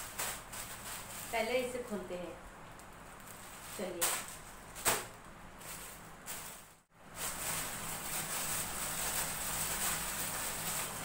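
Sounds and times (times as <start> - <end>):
plastic packaging crinkling: 0.0 - 2.1, 2.7 - 11.0.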